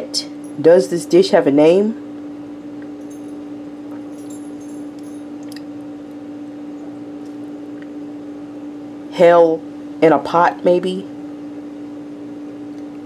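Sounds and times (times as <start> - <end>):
steady hum with held tone: 0.0 - 13.0.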